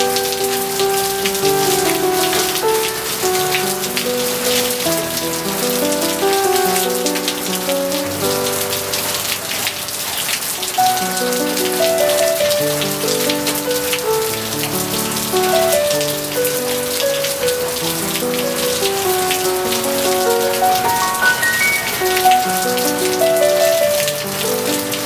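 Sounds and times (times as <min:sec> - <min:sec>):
gentle piano music: 0:00.0 - 0:25.0
steady rain falling: 0:00.0 - 0:25.0.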